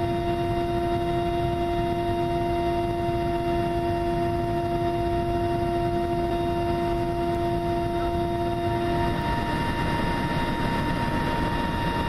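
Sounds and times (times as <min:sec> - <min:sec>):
aircraft engine drone in cabin: 0:00.0 - 0:12.0.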